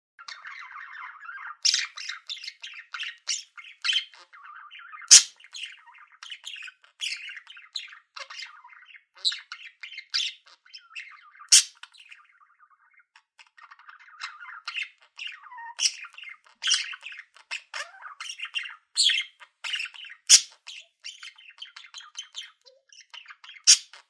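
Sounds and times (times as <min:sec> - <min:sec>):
budgerigar chatter: 0:00.2 - 0:24.0
sharp bird calls: 0:00.2 - 0:24.0.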